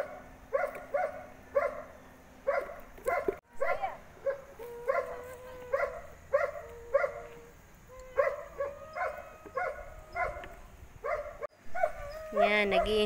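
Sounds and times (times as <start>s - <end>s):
animal barking: 0.0s - 13.0s.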